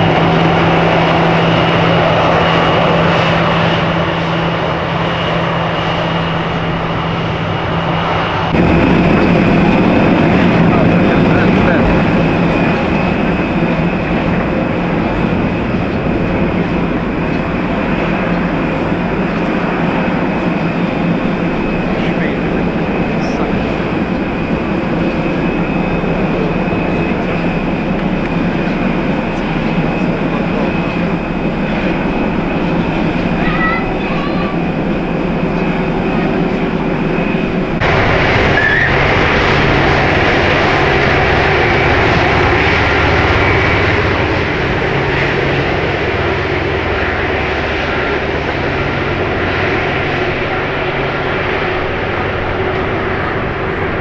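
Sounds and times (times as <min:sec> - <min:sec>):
jet engines with high whine: 0:00.0 - 0:54.0.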